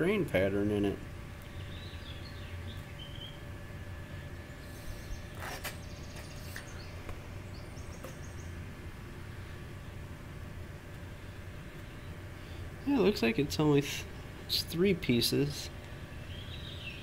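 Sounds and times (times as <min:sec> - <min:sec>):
room hum: 0:00.0 - 0:17.0.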